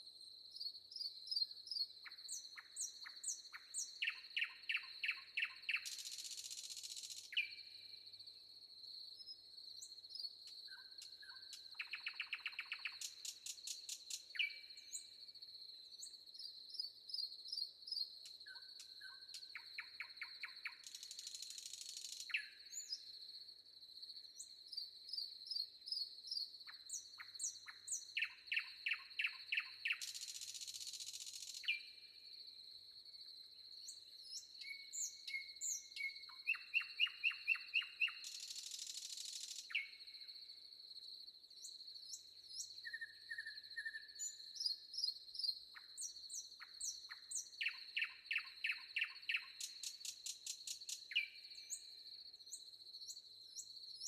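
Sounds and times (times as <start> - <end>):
songbirds singing: 0.5 - 8.0, 9.1 - 23.2, 24.3 - 32.2, 33.6 - 40.2, 41.6 - 54.0.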